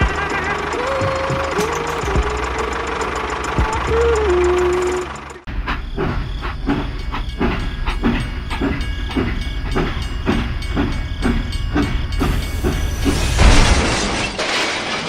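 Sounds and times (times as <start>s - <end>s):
train rumbling on rails: 0.0s - 14.0s
wheels clacking over rail joints: 0.0s - 15.0s.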